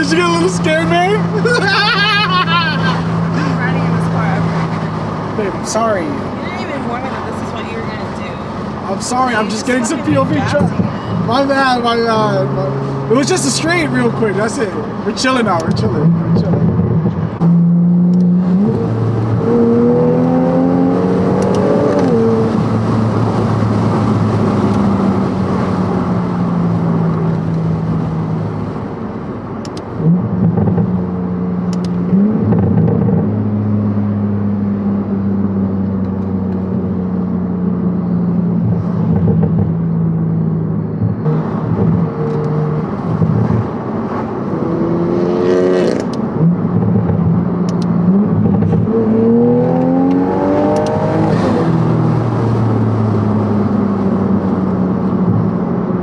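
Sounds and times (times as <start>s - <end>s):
car engine revving while driving: 0.0s - 56.0s.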